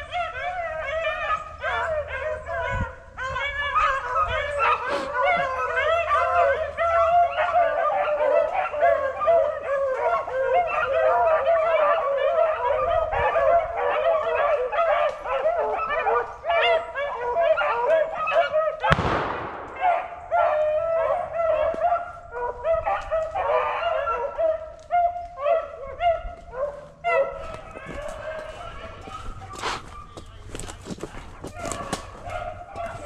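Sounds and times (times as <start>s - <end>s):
hounds baying: 0.0s - 33.0s.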